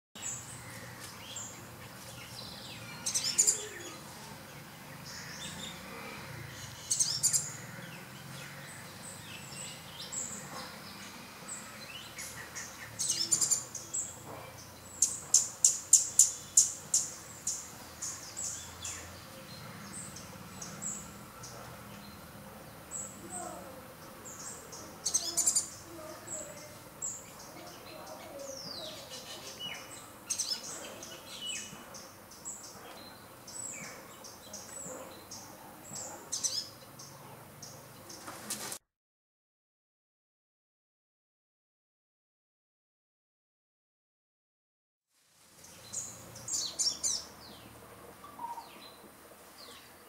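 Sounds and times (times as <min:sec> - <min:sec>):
small birds chirping: 0:00.2 - 0:38.8, 0:45.5 - 0:50.0.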